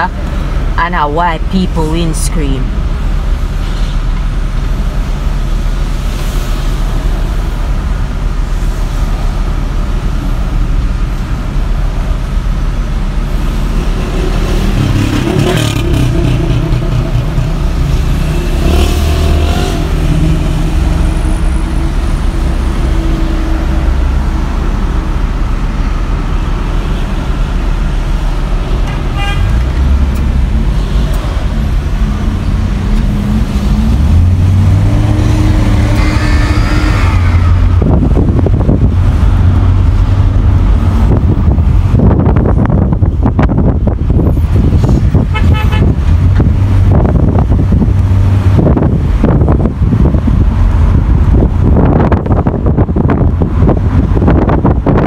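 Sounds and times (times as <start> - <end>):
surrounding traffic rumble: 0.0 - 55.0.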